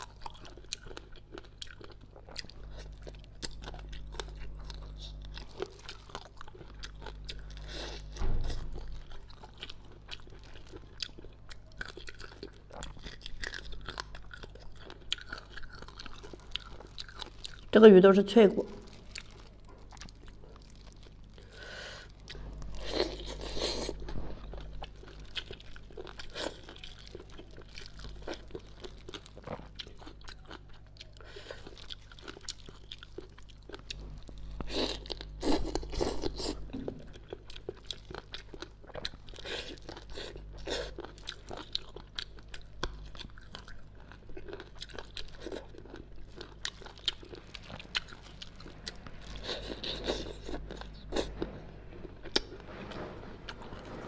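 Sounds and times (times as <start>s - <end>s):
chewing and crunching: 0.0s - 17.8s, 18.6s - 54.0s.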